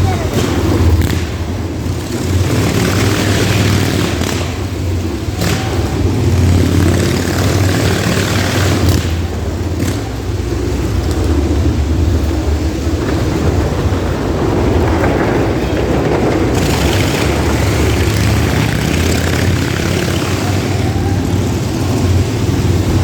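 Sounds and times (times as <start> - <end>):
motorcycle engines running: 0.0 - 23.0.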